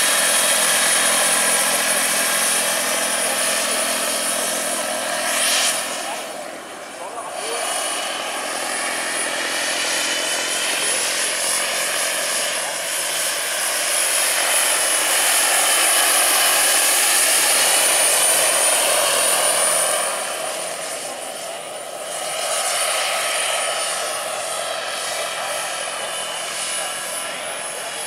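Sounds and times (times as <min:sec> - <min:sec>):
helicopter rotor noise: 0:00.0 - 0:28.0
turbine whine: 0:00.0 - 0:28.0.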